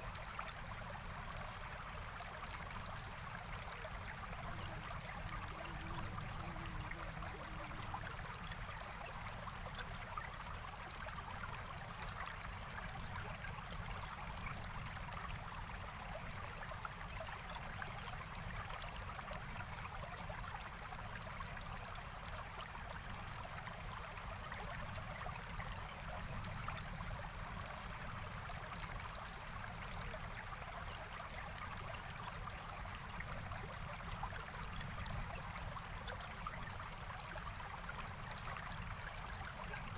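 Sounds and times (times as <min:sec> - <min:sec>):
stream flowing: 0:00.1 - 0:39.9.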